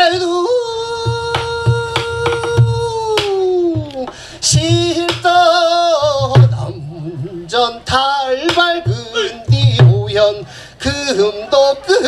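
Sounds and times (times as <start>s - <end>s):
man singing with wide vibrato: 0.0s - 12.0s.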